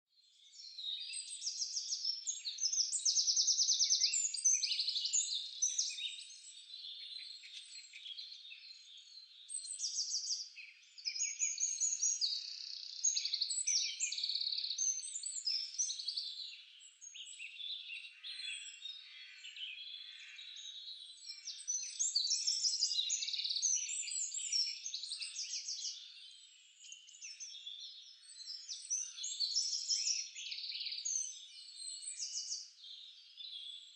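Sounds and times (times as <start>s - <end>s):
small birds chirping and trilling: 0.1s - 33.9s.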